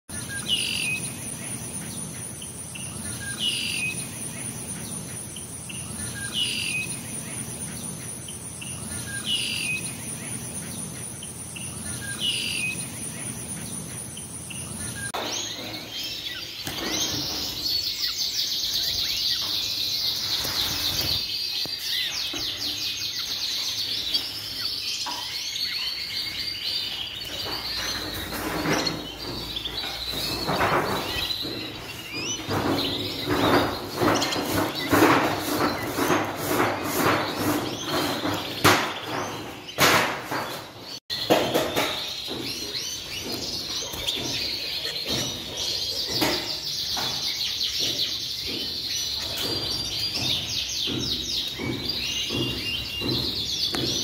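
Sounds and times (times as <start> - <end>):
canaries singing trills: 0.1 - 54.0
falling bird chirp: 0.1 - 54.0.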